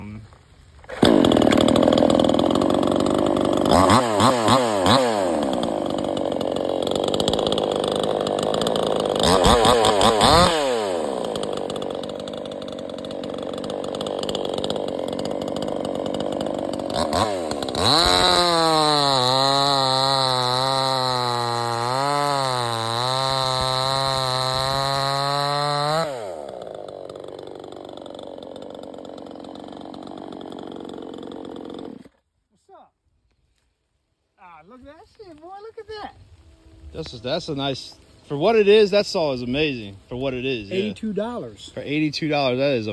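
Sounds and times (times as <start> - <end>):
chainsaw revving and cutting wood: 0.8 - 32.2, 37.1 - 42.9.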